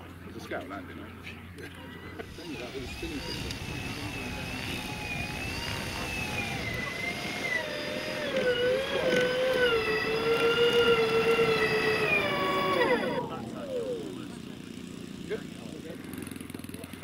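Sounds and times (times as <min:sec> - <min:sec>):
model aircraft electric motor whine: 0:02.0 - 0:17.0.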